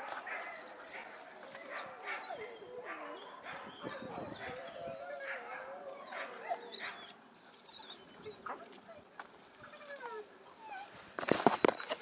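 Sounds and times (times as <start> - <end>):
dogs whining and yelping: 0.0 - 12.0.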